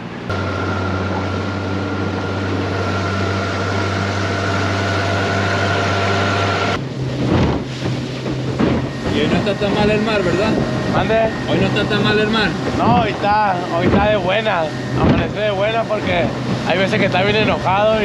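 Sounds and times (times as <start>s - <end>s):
outboard motor running: 0.0s - 18.0s
wind and water rushing: 0.3s - 18.0s
wind gusts on microphone: 0.3s - 18.0s.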